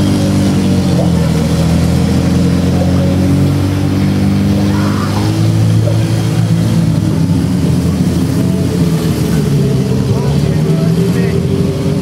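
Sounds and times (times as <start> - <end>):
vehicle motor running: 0.0 - 12.0.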